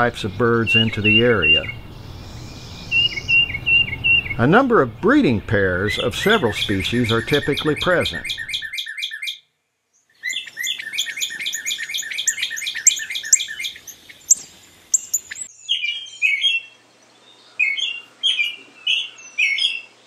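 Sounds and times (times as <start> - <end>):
bird warbling song: 0.0 - 20.0
bird whistling song: 0.6 - 4.4, 5.8 - 19.9.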